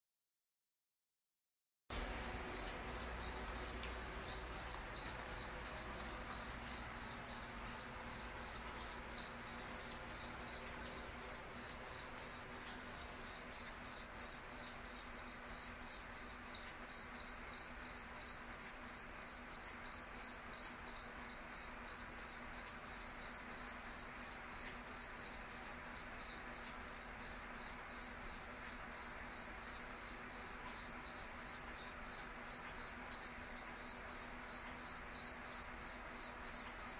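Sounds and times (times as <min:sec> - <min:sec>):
cricket chirping: 0:01.9 - 0:36.9.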